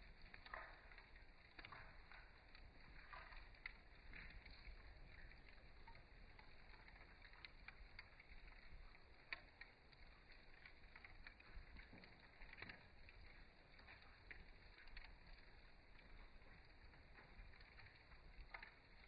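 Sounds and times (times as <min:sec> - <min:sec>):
campfire crackling: 0:00.0 - 0:19.0
sharp pops of burning wood: 0:00.0 - 0:19.0.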